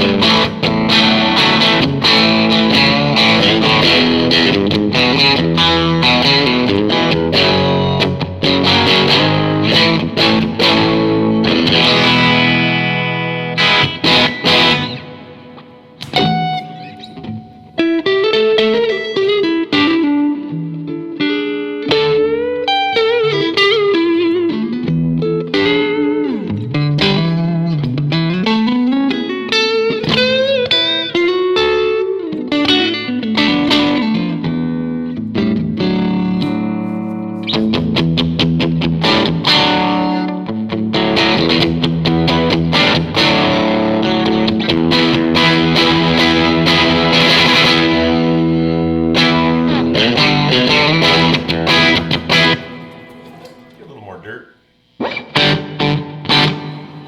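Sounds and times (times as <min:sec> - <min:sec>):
electric guitar notes and chords: 0:00.0 - 0:57.0.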